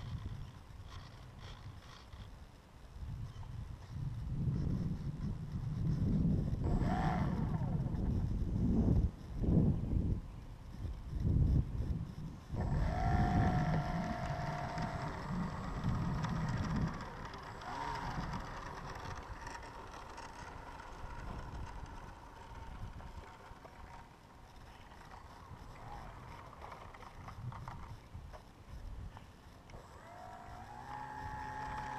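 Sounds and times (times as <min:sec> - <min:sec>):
model airplane motor whining: 0:00.0 - 0:02.4, 0:04.2 - 0:09.5, 0:10.8 - 0:28.4, 0:29.6 - 0:31.9
wind rumble on microphone: 0:00.0 - 0:31.9.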